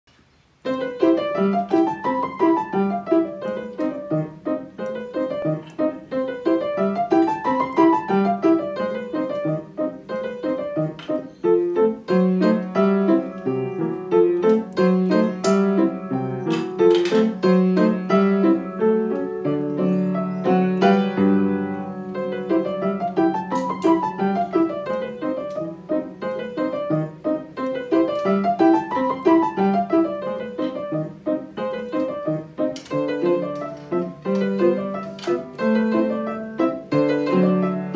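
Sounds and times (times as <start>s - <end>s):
solo piano: 0.1s - 37.9s.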